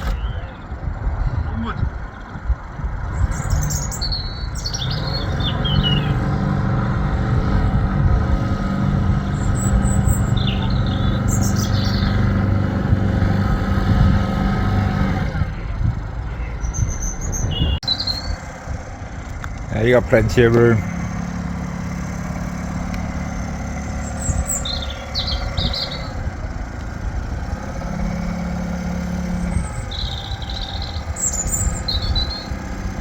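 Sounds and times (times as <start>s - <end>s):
birds chirping: 0.0s - 33.0s
boat engine running: 0.0s - 33.0s.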